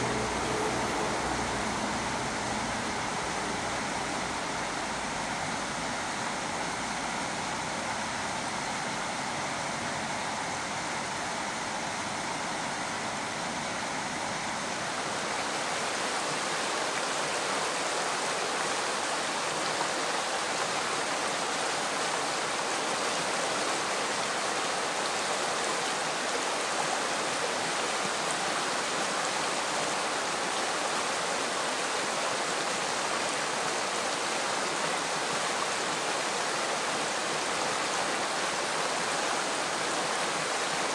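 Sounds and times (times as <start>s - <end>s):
river running over gravel: 0.0s - 40.9s.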